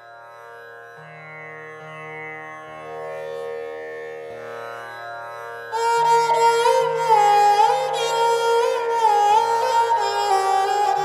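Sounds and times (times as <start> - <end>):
indian classical drone: 0.0 - 11.0.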